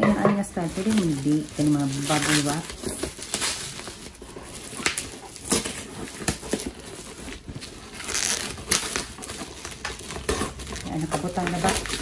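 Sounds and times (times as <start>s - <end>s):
bubble wrap crinkling: 0.1s - 12.0s.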